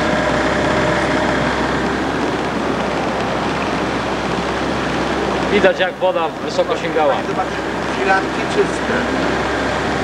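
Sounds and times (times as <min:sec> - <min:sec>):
motorboat engine running: 0:00.0 - 0:10.0
water rushing: 0:00.0 - 0:10.0
wind: 0:00.0 - 0:10.0.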